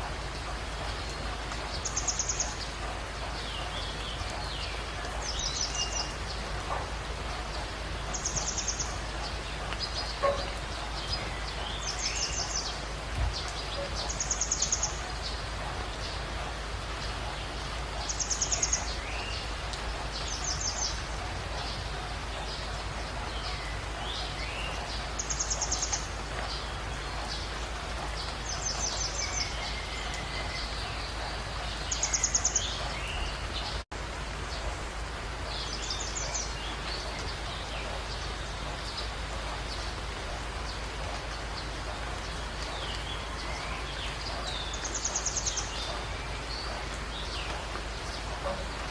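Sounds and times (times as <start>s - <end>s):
birds chirping: 0.0s - 48.9s
steady background hiss: 0.0s - 48.9s.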